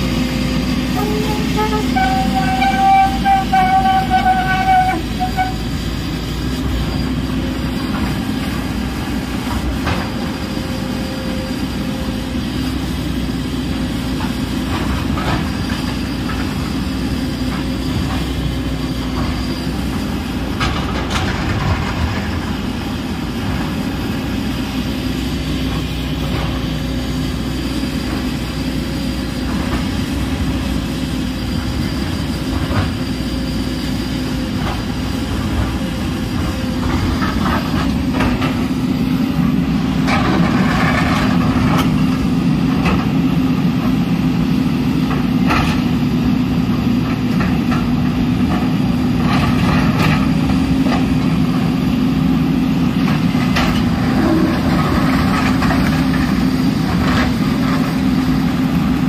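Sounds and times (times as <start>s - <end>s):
excavator diesel engine running: 0.0s - 59.0s
hydraulics: 0.0s - 59.0s
loud high whine: 0.0s - 59.0s
steel tracks clattering: 0.0s - 59.0s.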